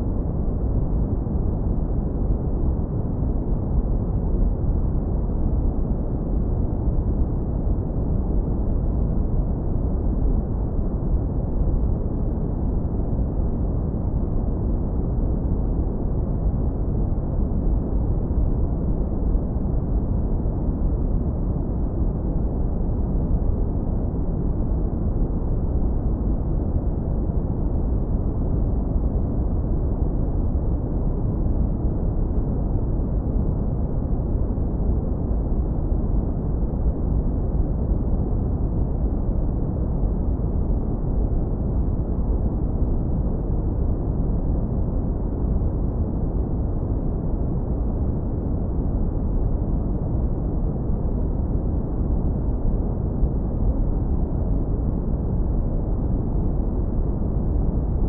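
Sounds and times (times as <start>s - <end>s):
deep brown noise rumble: 0.0s - 58.0s.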